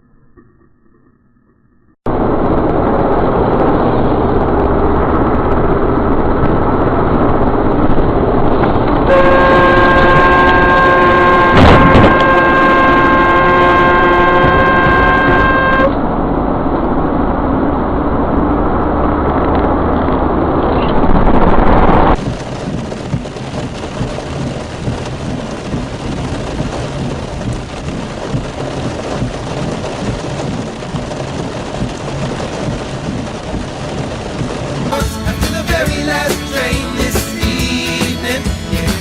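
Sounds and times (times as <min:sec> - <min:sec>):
vehicle road noise rumbling: 0:02.0 - 0:39.0.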